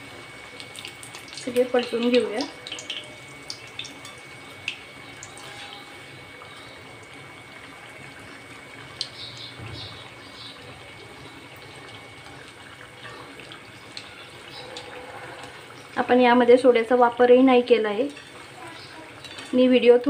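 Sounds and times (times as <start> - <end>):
fritters sizzling in hot oil: 0.0 - 20.0.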